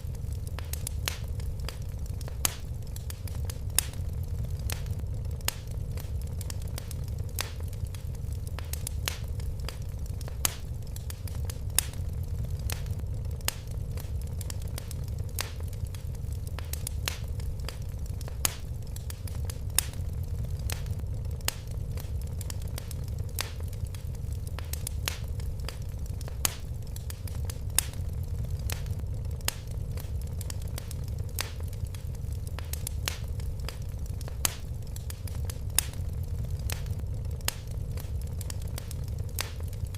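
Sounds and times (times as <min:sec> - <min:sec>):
fireplace fire crackling: 0:00.0 - 0:39.9
loud fire pops: 0:00.0 - 0:39.9.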